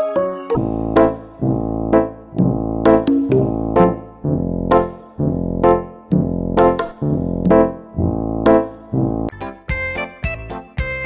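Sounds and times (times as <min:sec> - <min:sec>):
keyboard playing chords: 0:00.0 - 0:10.1.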